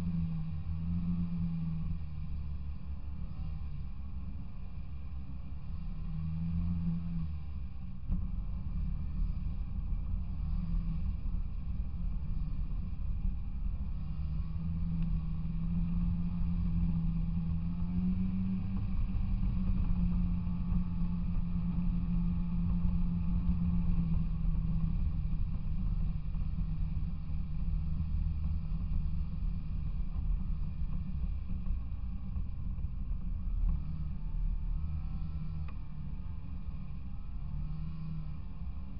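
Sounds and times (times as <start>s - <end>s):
low rumble: 0.0s - 38.9s.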